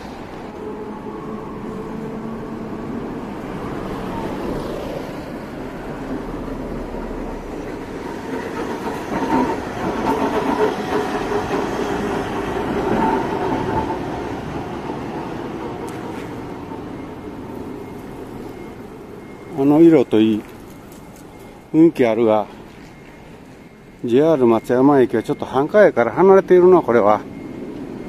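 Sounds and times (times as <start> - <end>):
streetcar wheels rumbling and clacking: 0.0 - 28.0.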